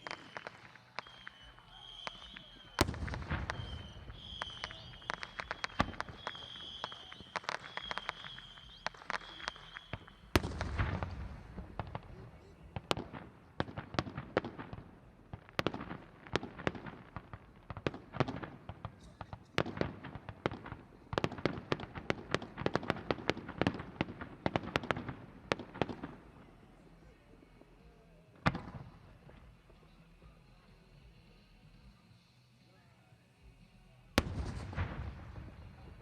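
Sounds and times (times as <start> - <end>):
fireworks bangs: 0.0 - 29.9, 34.1 - 36.0.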